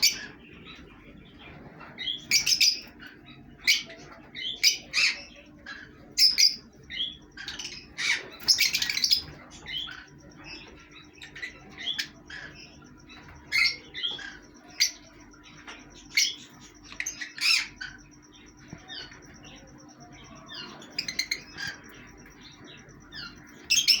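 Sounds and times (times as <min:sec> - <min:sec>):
parrots chirping and squawking: 0:00.0 - 0:24.0.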